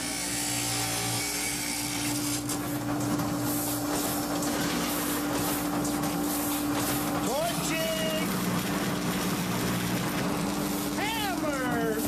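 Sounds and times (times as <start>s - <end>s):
power tool humming: 0.0s - 12.0s.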